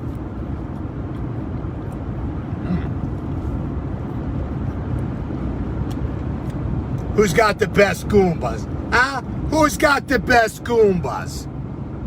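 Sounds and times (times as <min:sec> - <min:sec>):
car rumbling: 0:00.0 - 0:12.0.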